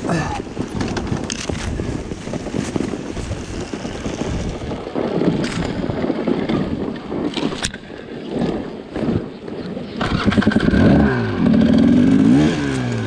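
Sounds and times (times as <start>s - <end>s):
dirt bike engine rumble: 0.0s - 13.0s
wind buffeting microphone: 0.0s - 13.0s.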